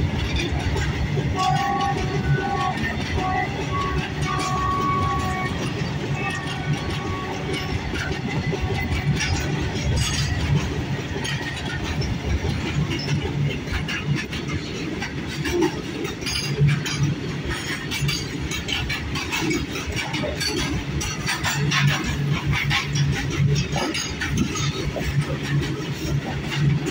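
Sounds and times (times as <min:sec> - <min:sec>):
steel wheels rumbling on rail: 0:00.0 - 0:26.9
wheels clattering over rail joints: 0:00.0 - 0:26.9.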